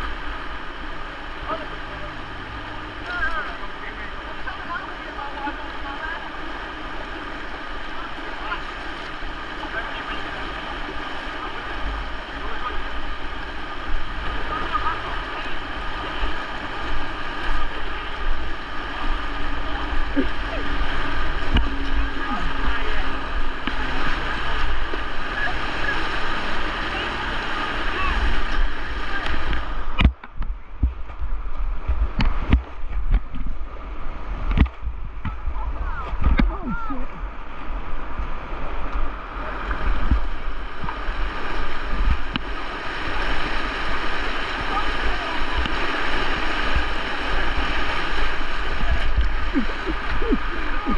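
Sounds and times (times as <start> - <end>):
river water rushing: 0.0 - 30.1, 32.1 - 50.9
wind rumbling on microphone: 0.0 - 50.9.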